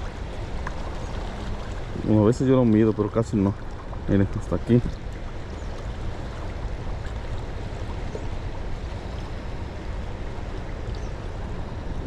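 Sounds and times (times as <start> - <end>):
steady rushing outdoor noise: 0.0 - 12.0.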